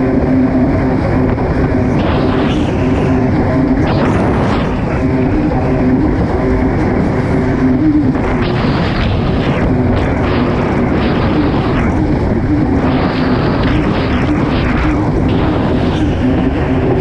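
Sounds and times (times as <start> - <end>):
jet ski engine running hard: 0.0 - 17.0.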